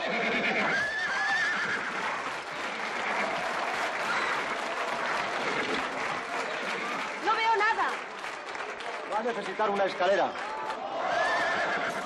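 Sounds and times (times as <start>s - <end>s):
crowd clapping and cheering: 0.8s - 12.0s.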